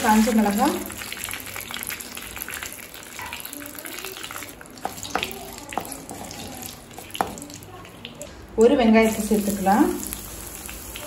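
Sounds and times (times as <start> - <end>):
spices sizzling in hot oil: 0.0 - 8.2, 9.0 - 11.0.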